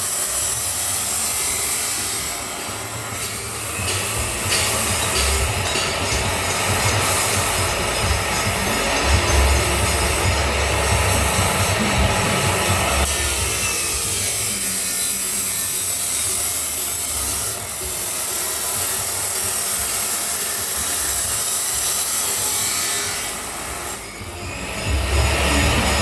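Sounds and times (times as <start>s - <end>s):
grinder cutting steel pipe: 0.0s - 26.0s.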